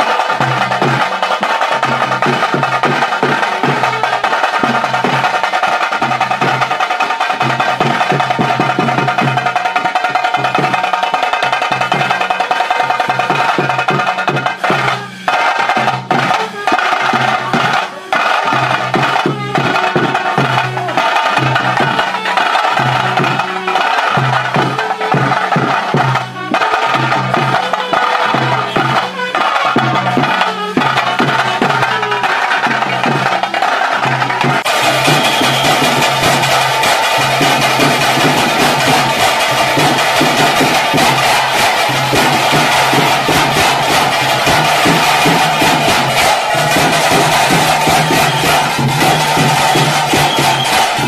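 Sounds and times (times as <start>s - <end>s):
loud fast drumming: 0.0s - 51.0s.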